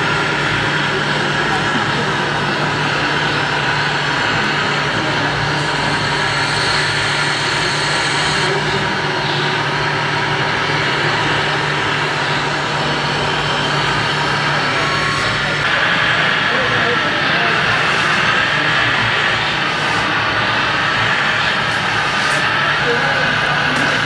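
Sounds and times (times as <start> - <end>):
thin high whine: 0.0 - 24.0.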